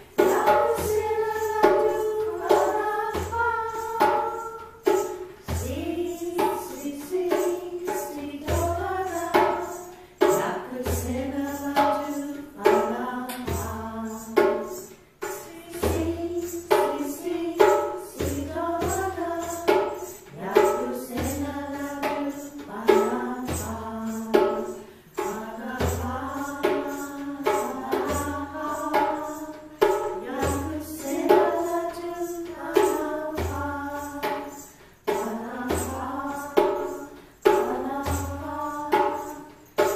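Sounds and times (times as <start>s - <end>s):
small group singing: 0.0s - 39.9s
tambourine jingling: 0.0s - 39.9s.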